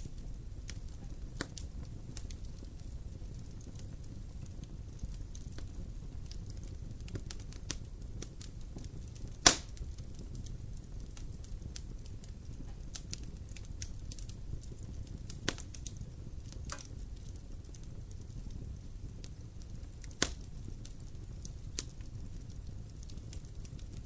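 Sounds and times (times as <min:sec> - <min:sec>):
low fire rumble: 0:00.0 - 0:24.0
sharp fire pops: 0:00.0 - 0:24.0
small fire crackles: 0:00.0 - 0:24.0.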